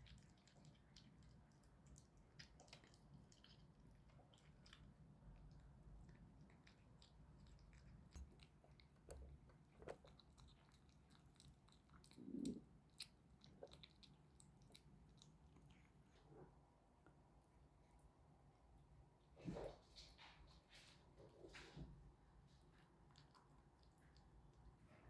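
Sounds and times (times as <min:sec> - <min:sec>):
kitten chewing food: 0:00.0 - 0:25.0.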